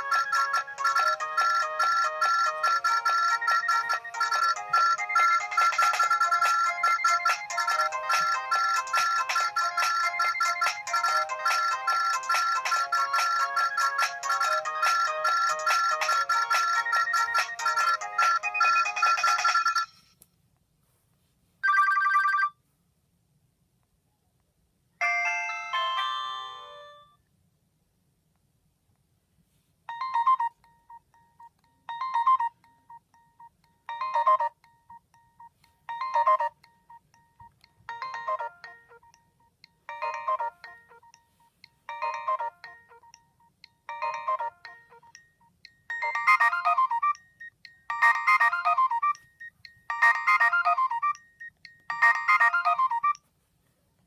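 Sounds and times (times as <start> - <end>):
phone ringtone chiming: 0.0 - 20.2, 21.6 - 22.6, 25.0 - 27.2, 29.9 - 53.3.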